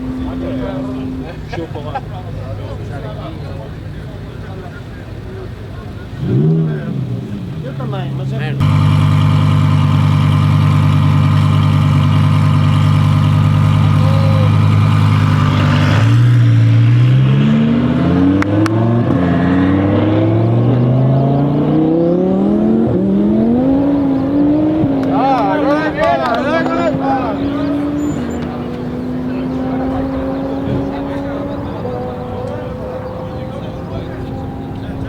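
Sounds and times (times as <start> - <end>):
car engine revving and accelerating: 6.2 - 35.0.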